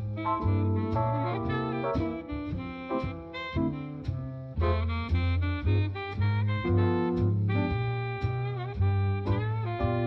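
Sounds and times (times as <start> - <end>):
bass line: 0.0 - 10.0
saxophone: 0.0 - 10.0
steady beat: 0.0 - 10.0.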